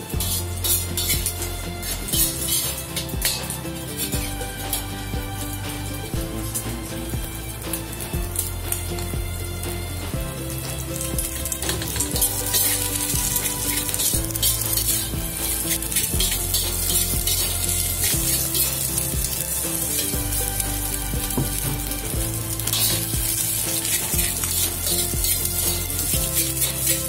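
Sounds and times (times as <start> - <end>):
background music with low notes: 0.0 - 27.0
rice sizzling in a wok: 0.0 - 27.0
spatula scraping metal wok: 0.0 - 27.0.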